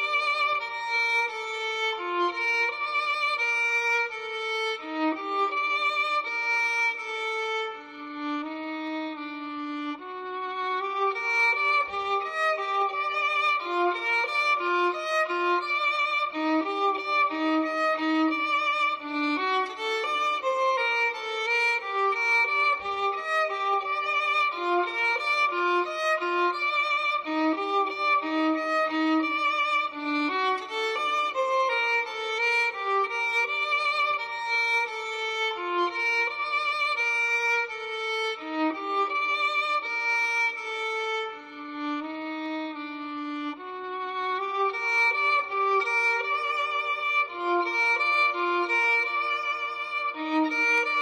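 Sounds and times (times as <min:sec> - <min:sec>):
violin melody with vibrato: 0:00.0 - 0:51.0.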